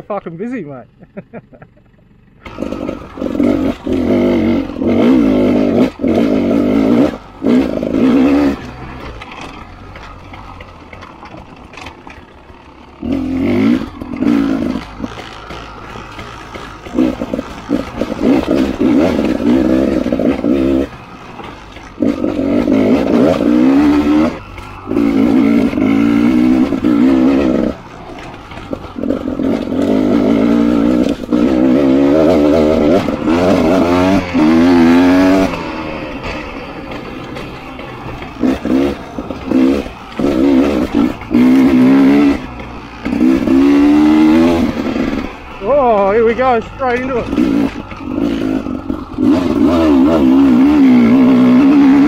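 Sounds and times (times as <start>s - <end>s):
motorcycle engine revving: 2.0s - 52.0s.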